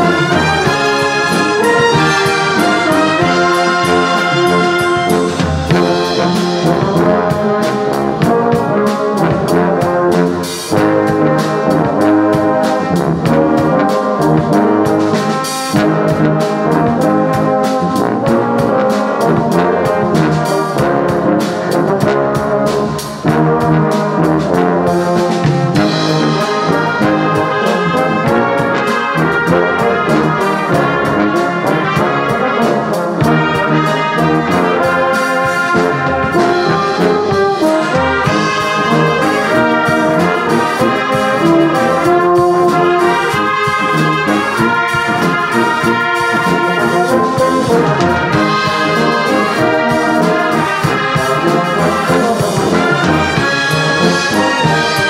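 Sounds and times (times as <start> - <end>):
brass band playing a hymn: 0.0 - 55.0.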